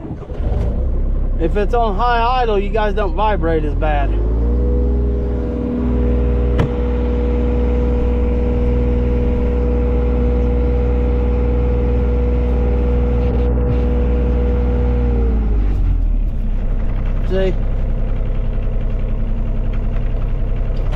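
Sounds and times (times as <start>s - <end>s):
engine idling: 0.0s - 20.9s.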